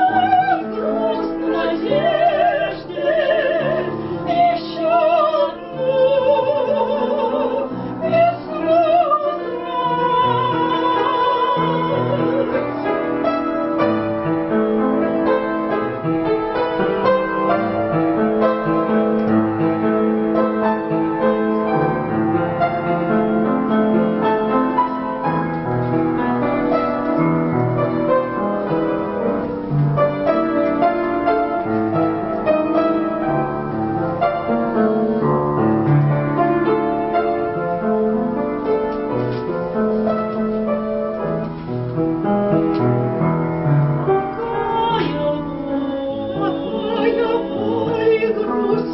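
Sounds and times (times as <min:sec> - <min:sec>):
piano solo: 0:00.0 - 0:48.9.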